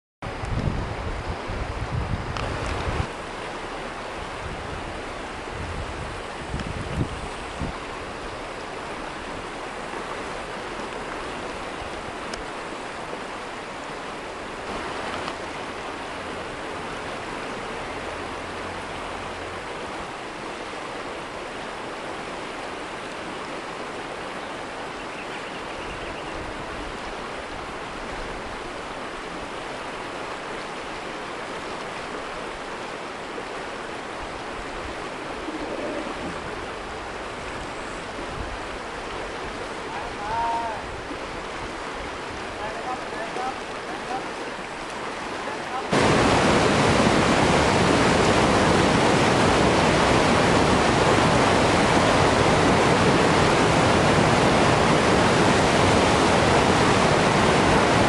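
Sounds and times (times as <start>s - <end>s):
river water rushing through rapids: 0.3s - 58.0s.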